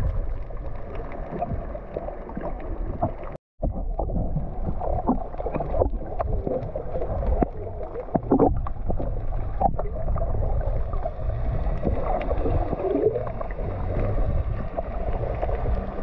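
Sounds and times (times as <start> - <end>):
low steady rumble: 0.0 - 16.0
muffled water sloshing and bubbling: 0.0 - 16.0.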